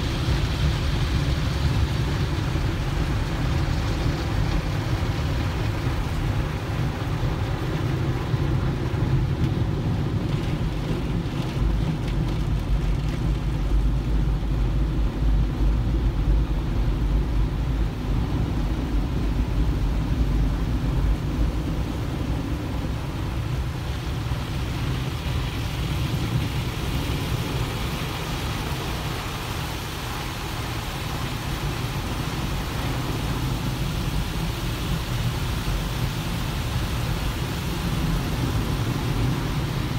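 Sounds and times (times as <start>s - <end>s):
steady low rumble: 0.0s - 39.9s
water spray beating on windshield: 0.0s - 39.9s.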